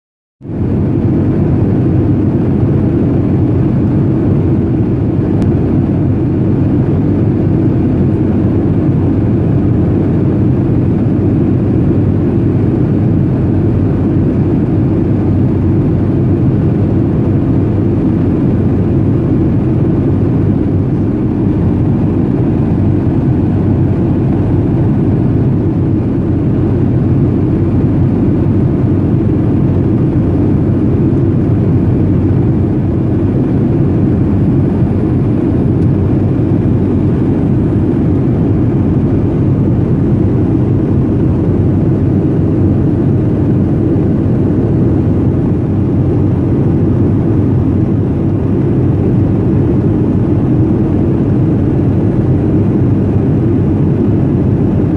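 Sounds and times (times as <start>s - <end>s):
jet cabin low rumble: 0.5s - 54.9s.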